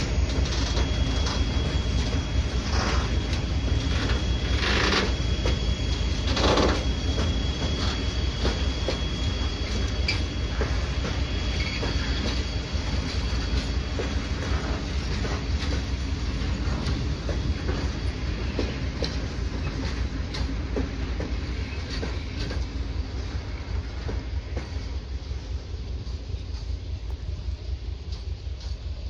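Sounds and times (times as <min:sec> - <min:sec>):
train rumbling past: 0:00.0 - 0:29.0.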